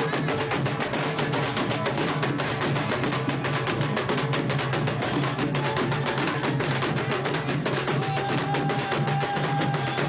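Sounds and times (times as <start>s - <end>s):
fast procession drumming: 0.0s - 10.0s.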